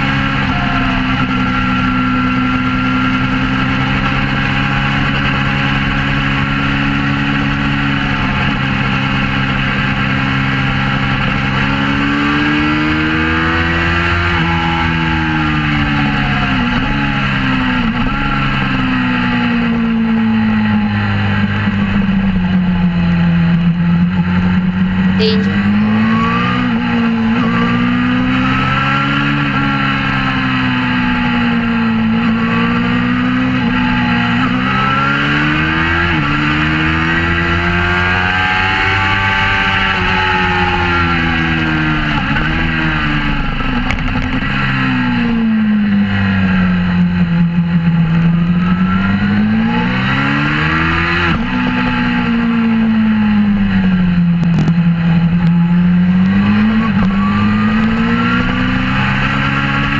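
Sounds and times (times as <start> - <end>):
motorcycle engine accelerating: 0.0 - 24.5, 25.2 - 59.9.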